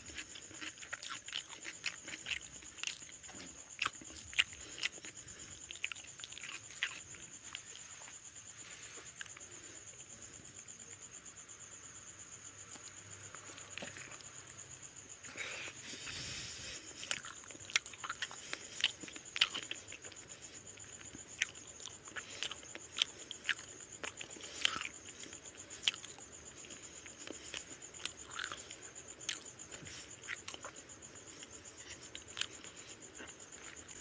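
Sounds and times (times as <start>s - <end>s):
wet chewing sounds: 0.0s - 9.7s, 12.7s - 34.0s.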